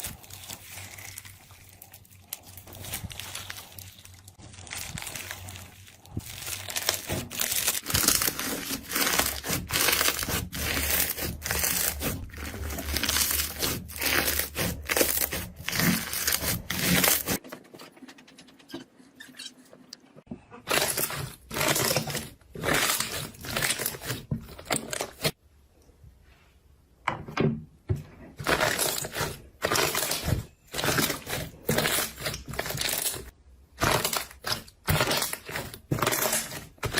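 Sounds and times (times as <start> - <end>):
slime squishing by hand: 0.0 - 17.4, 20.3 - 25.4, 28.3 - 36.9.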